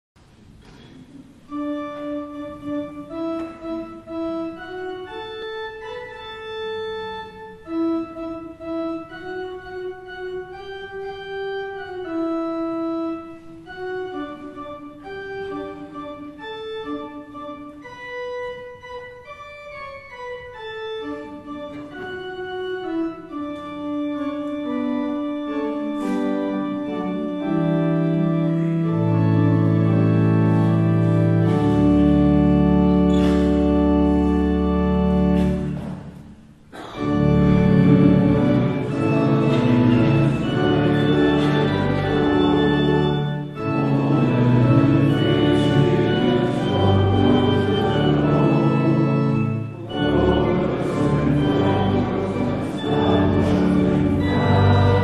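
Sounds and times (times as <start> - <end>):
church organ playing a hymn: 1.3 - 55.0.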